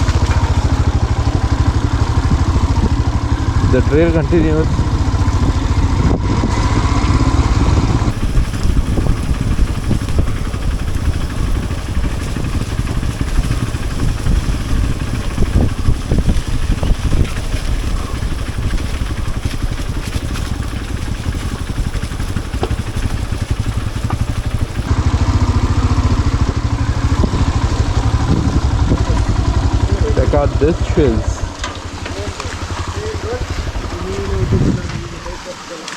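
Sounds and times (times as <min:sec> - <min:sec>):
motorcycle knocks and rattles: 0:00.0 - 0:25.3, 0:26.4 - 0:35.2
motorcycle engine at low revs: 0:00.0 - 0:35.6.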